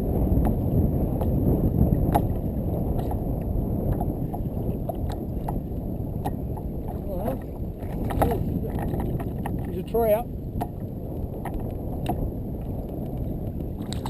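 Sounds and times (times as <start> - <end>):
water noise: 0.0 - 14.0
wind noise on microphone: 0.0 - 14.0.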